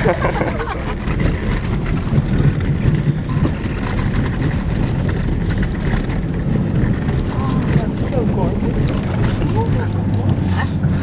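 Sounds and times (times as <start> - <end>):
vehicle engine and road rumble: 0.0 - 11.0
vehicle jolts and knocks: 0.0 - 11.0.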